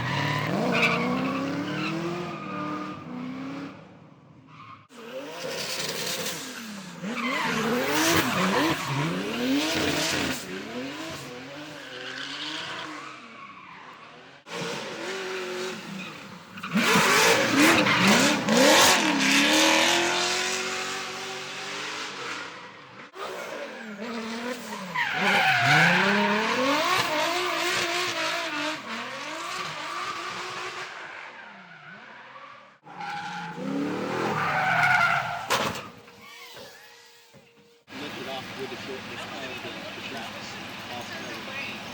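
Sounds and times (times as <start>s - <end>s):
loud tyre screech: 0.0s - 3.8s, 4.4s - 38.6s
car engines revving: 0.0s - 41.9s.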